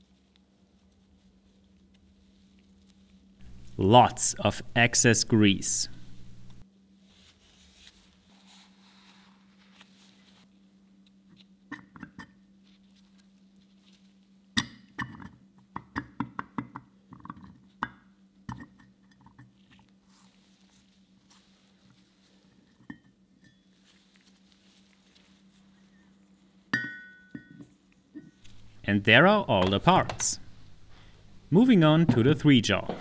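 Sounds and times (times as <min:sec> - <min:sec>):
faint steady hum: 0:00.0 - 0:15.0, 0:17.8 - 0:33.0.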